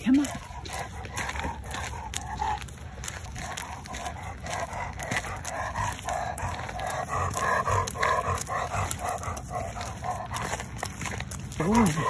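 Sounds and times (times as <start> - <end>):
dog rasping breathing: 0.0 - 12.0.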